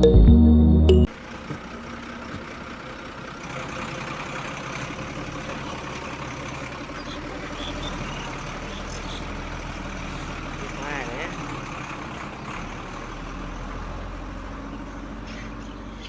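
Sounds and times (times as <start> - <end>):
engine running steadily: 1.0 - 16.0.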